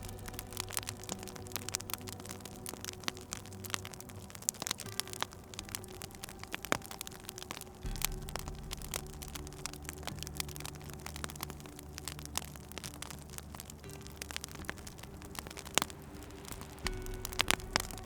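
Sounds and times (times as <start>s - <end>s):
low steady hum: 0.0s - 18.0s
wood fire crackling and popping: 0.0s - 18.0s.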